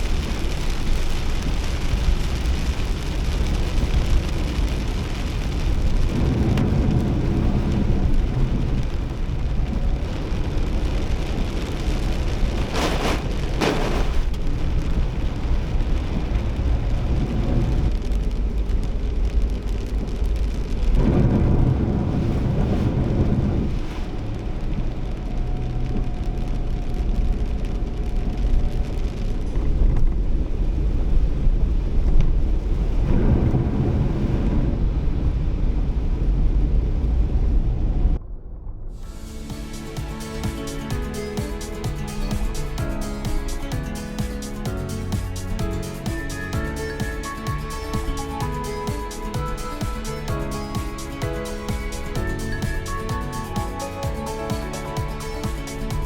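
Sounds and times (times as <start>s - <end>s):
heavy rain drumming on car: 0.0s - 38.2s, 39.0s - 56.0s
road and engine rumble: 0.0s - 56.0s.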